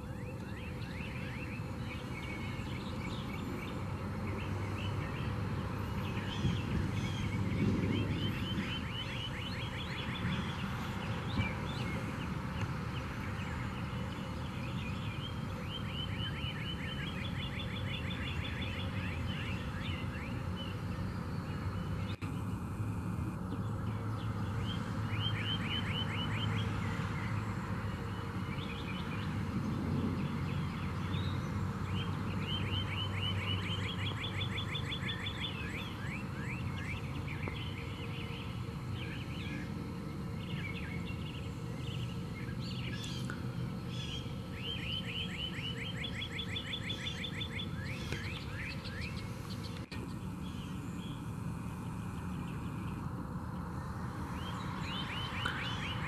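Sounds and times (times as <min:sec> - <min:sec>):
low outdoor hum: 0:00.0 - 0:56.0.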